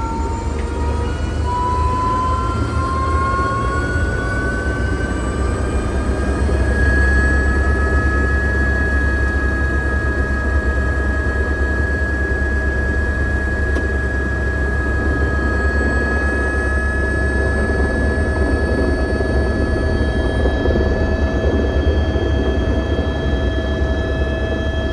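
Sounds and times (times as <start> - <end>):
helicopter rotor beat: 0.0 - 24.9
turbine whine: 0.0 - 24.9.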